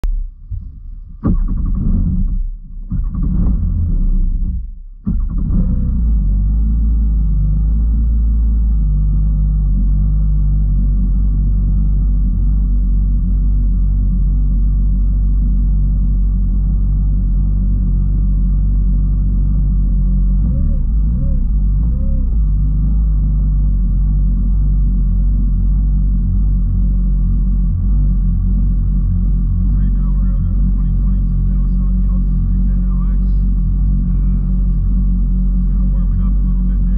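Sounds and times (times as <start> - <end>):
jet ski engine rumbling: 0.0 - 36.9.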